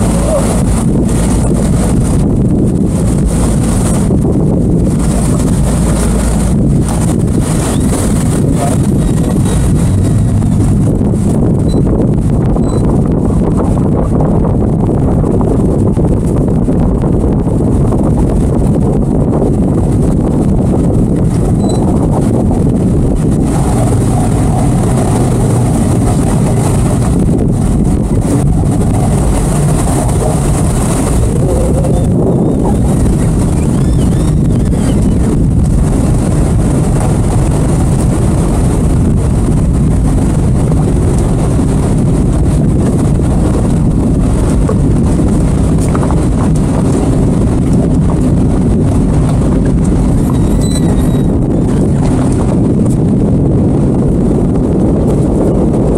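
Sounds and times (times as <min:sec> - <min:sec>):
boat outboard engines running: 0:00.0 - 0:55.9
wind rumbling on microphone: 0:00.0 - 0:55.9.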